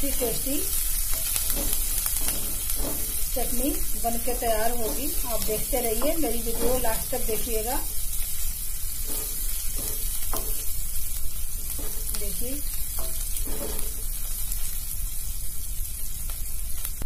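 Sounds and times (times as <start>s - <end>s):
spices sizzling in hot oil: 0.0s - 17.0s
spatula scraping a metal pan: 0.2s - 14.5s.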